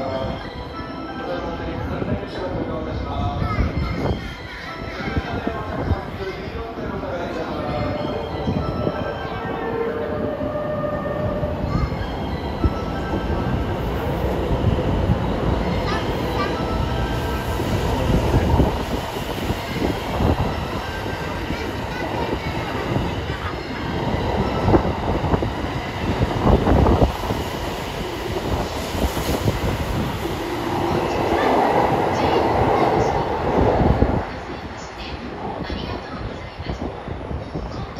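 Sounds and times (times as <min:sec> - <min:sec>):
wheels rumbling on rail: 0:01.6 - 0:37.9.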